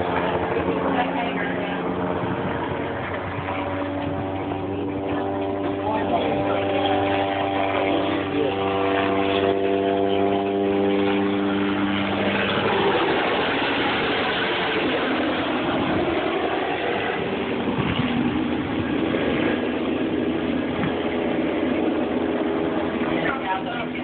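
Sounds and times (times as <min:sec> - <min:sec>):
helicopter lifting off: 0:00.0 - 0:24.0.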